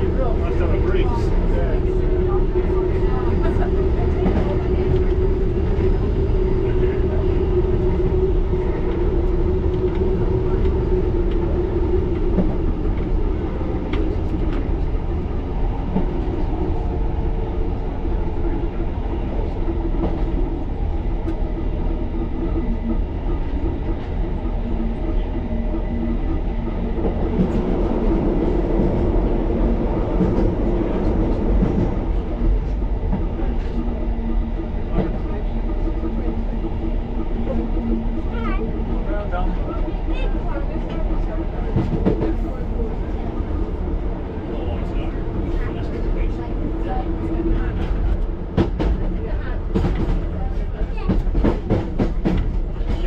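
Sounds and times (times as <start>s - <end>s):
electric train rumbling: 0.0s - 53.0s.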